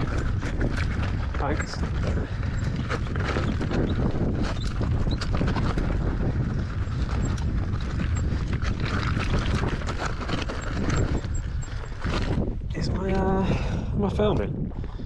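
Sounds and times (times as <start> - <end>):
bike rattling over stones: 0.0 - 13.1
steady low rumble: 0.0 - 15.0.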